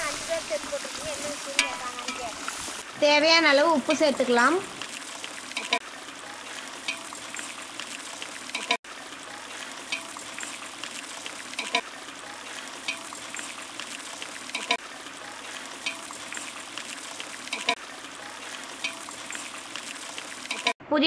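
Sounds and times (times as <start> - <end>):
sauce bubbling and sizzling in a pot: 0.0 - 20.8.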